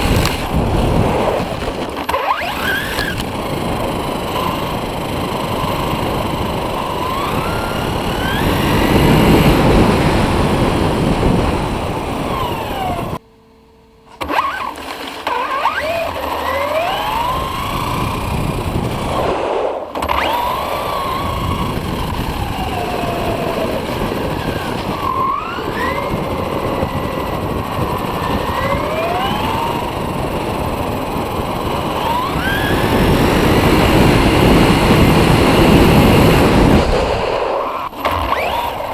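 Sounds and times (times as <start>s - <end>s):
electric motor whining: 0.0s - 13.2s, 14.1s - 38.9s
tyre and wind noise: 0.0s - 13.2s, 14.2s - 38.9s.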